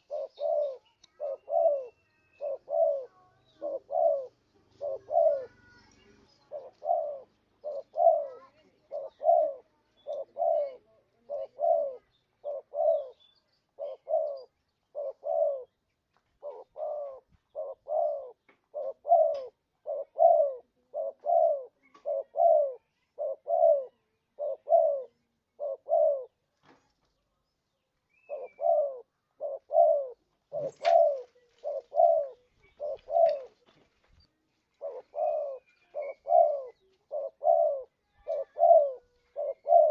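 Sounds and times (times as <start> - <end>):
dove cooing: 0.0 - 15.8, 16.4 - 26.4, 28.2 - 33.7, 34.7 - 39.9.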